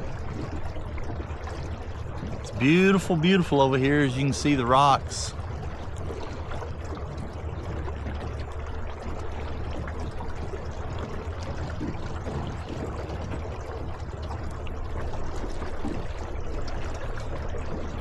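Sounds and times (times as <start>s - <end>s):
trolling motor hum: 0.0s - 18.0s
water splashing along boat hull: 0.0s - 18.0s.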